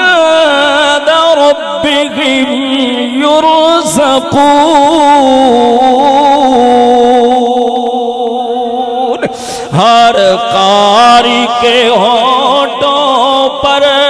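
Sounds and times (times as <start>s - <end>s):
man chanting melodic recitation: 0.0s - 14.0s.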